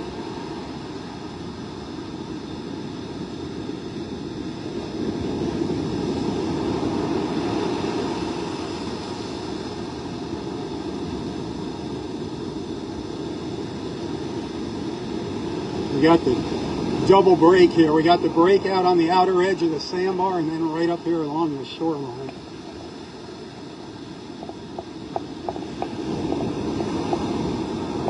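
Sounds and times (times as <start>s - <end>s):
storm surf breaking on shore: 0.0s - 28.0s.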